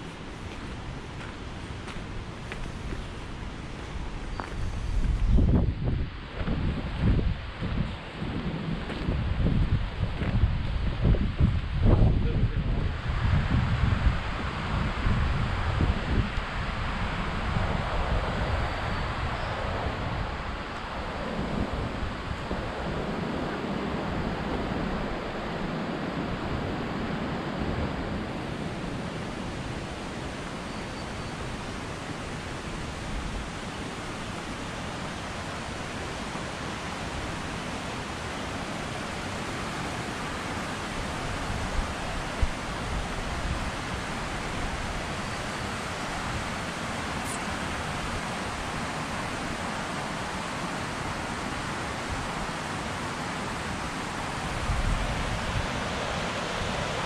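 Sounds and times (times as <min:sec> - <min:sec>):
mountain creek rushing: 0:00.0 - 0:12.0, 0:12.6 - 0:57.0.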